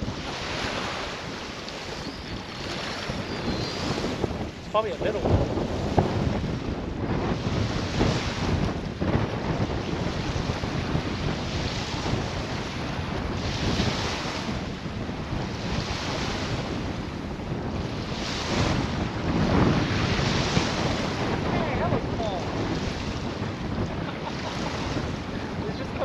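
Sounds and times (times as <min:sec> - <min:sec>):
strong wind buffeting microphone: 0:00.0 - 0:26.0
waves washing on shore: 0:00.0 - 0:26.0.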